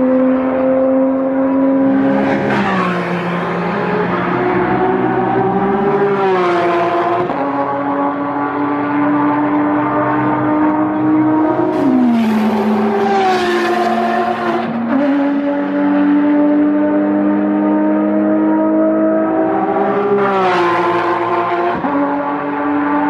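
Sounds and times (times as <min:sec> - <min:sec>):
race cars driving past: 0:00.0 - 0:23.0.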